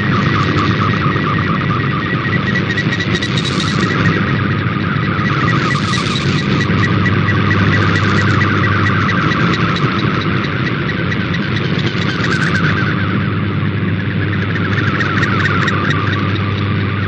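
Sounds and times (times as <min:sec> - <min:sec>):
interference hum: 0:00.0 - 0:17.0
receiver noise: 0:00.0 - 0:17.0
warbling data tone: 0:00.0 - 0:17.0.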